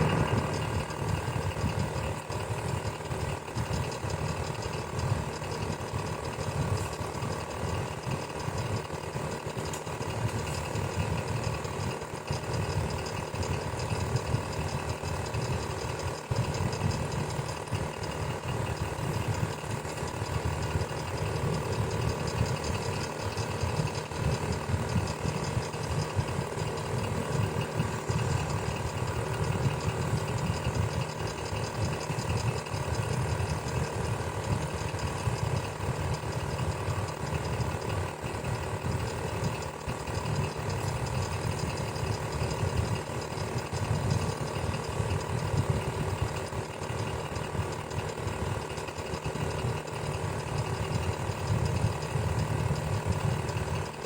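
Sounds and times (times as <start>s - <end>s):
electric fan whirring: 0.0s - 54.0s
faint steady tones: 0.0s - 54.0s.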